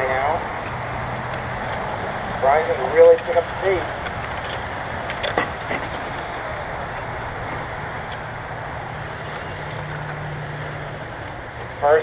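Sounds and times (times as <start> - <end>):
electric rc cars whirring: 0.0 - 12.0.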